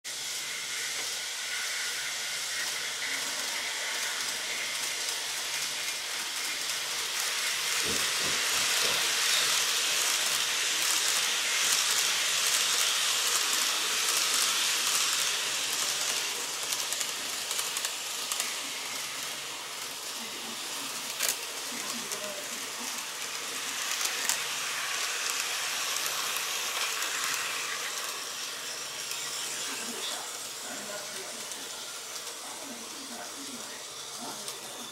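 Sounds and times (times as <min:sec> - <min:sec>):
model train rattling on track: 0:00.1 - 0:34.9.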